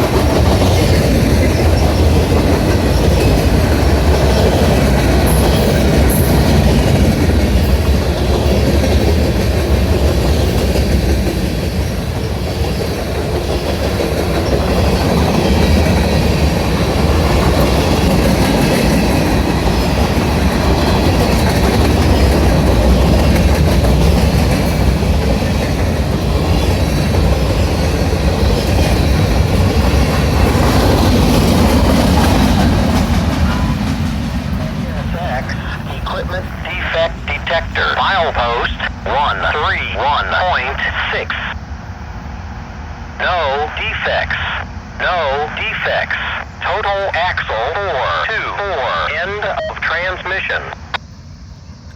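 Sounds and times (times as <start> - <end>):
freight train rumble: 0.0 - 51.9.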